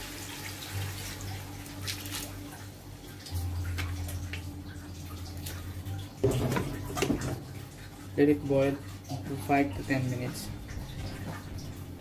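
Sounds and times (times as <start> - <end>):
low hum: 1.0 - 8.2, 8.9 - 12.0.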